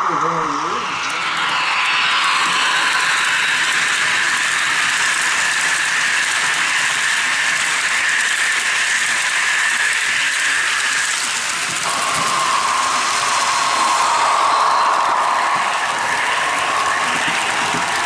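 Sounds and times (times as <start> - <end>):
model train whirring on track: 0.0 - 18.0.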